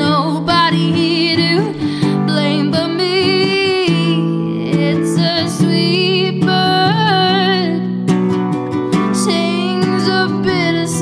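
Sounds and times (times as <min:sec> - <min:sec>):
woman singing with vibrato: 0:00.0 - 0:08.0, 0:08.9 - 0:11.0
acoustic guitar playing: 0:00.0 - 0:11.0.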